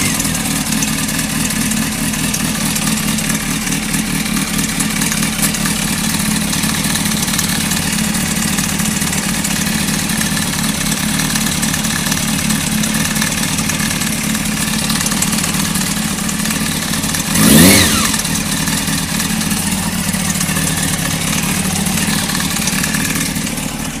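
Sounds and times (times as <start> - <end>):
motorcycle engine idling with rattle: 0.0 - 24.0.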